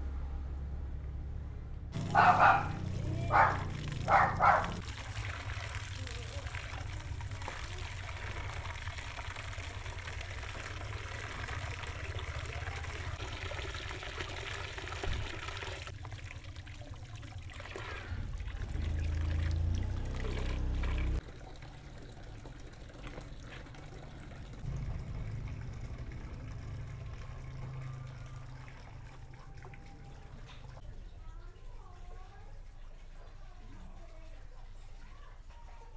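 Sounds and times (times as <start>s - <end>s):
water running: 2.0s - 35.9s.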